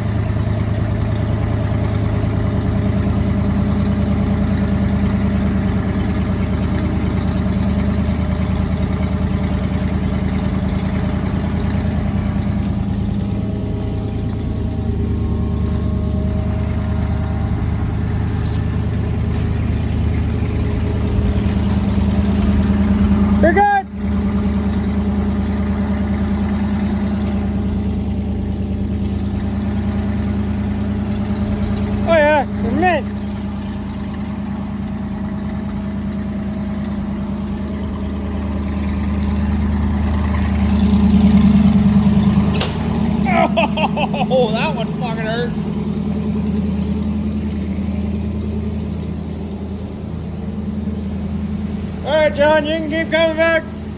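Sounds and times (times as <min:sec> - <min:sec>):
farm vehicle engine humming: 0:00.0 - 0:53.9.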